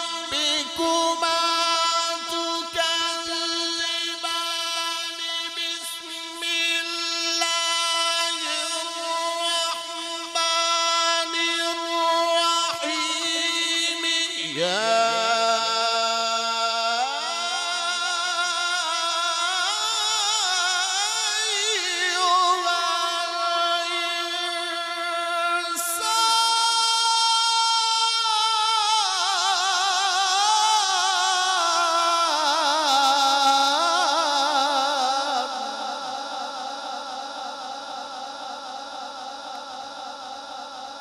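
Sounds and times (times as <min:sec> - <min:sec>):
man chanting recitation: 0:00.0 - 0:41.0.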